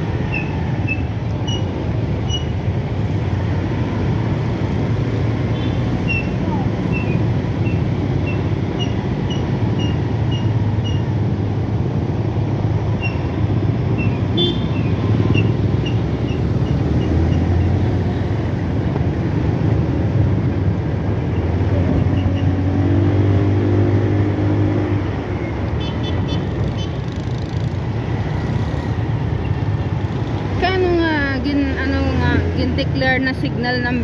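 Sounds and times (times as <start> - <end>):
traffic noise: 0.0 - 34.0.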